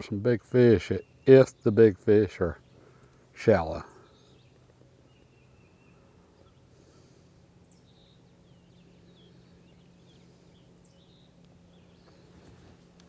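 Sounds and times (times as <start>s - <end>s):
faint low hum: 0.0s - 13.0s
birds chirping and whistling: 0.6s - 12.8s.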